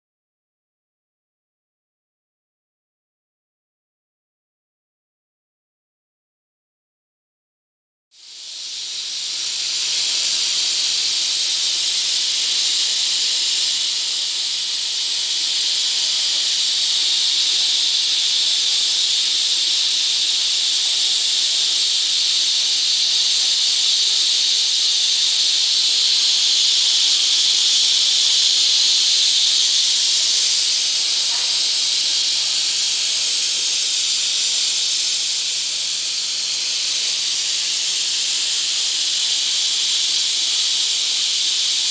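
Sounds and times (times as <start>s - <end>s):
compressed air spray nozzle hissing: 8.2s - 41.9s.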